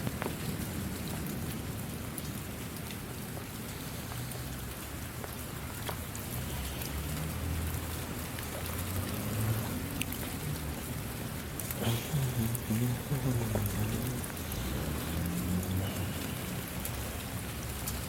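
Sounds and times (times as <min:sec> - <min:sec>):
raindrops ticking: 0:00.0 - 0:18.0
steady rain: 0:00.0 - 0:18.0.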